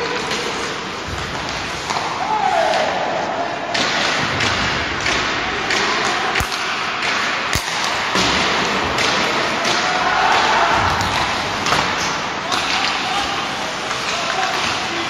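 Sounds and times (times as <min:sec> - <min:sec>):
skates scraping ice: 0:00.0 - 0:15.0.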